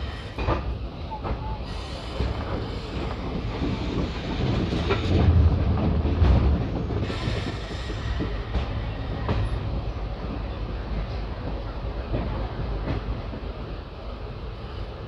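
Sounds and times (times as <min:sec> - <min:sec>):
train coach rumble: 0:00.0 - 0:15.0.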